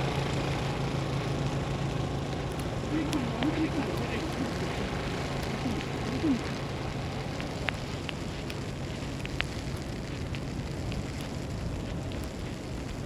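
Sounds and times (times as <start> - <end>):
faint low city hum: 0.0 - 13.0
sharp ticks: 0.0 - 13.0.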